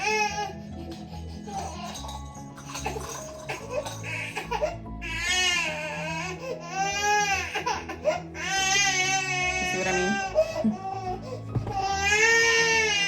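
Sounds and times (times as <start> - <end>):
baby crying: 0.0 - 0.7, 2.9 - 13.0
soft background music: 0.0 - 13.0.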